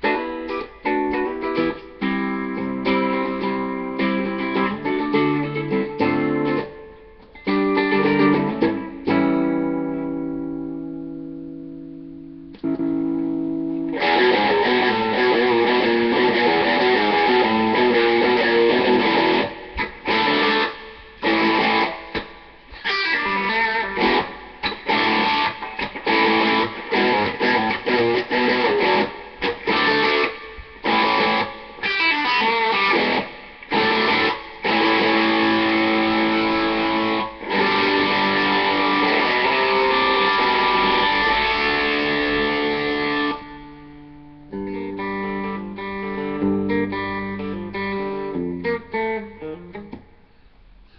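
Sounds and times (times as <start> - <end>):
electric guitar riffing: 0.0 - 50.9.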